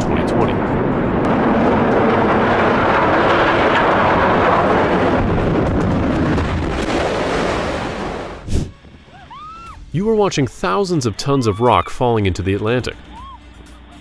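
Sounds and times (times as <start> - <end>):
smokestack collapsing rumble: 0.0 - 13.0.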